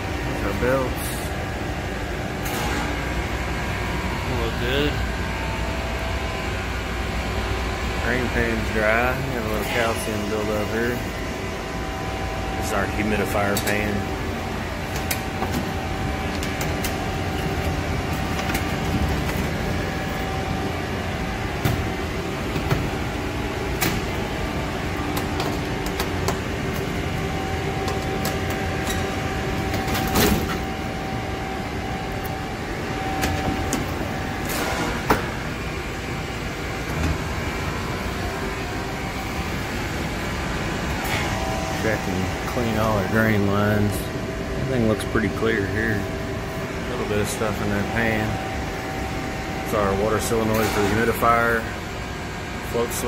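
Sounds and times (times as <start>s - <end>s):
air conditioning unit humming: 0.0s - 53.0s.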